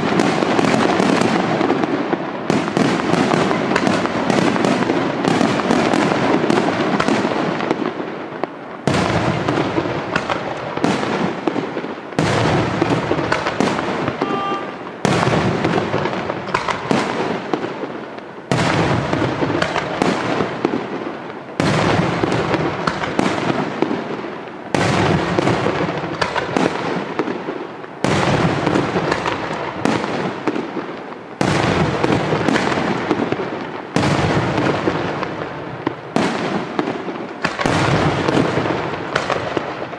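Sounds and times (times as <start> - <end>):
firework crackling: 0.0 - 39.9.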